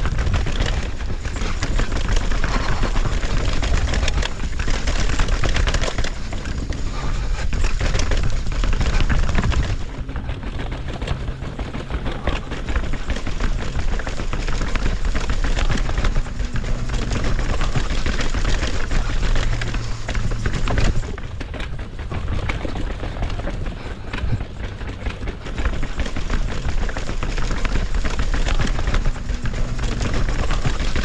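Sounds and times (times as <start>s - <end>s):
bike clattering down stairs: 0.0s - 31.0s
low rumble: 0.0s - 31.0s.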